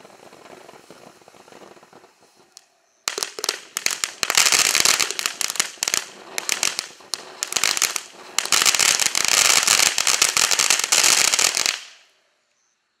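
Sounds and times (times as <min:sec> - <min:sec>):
fountain firework hissing and crackling: 0:00.0 - 0:12.3.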